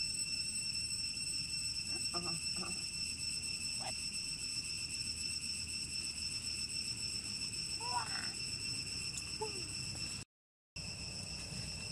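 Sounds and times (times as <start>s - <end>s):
high-pitched insect drone: 0.0s - 11.9s.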